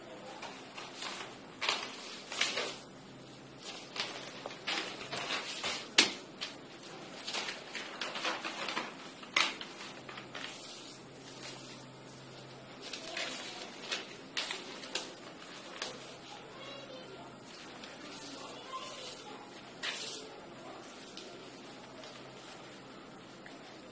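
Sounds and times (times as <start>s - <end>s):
newspaper rustling and crackling: 0.3s - 23.6s.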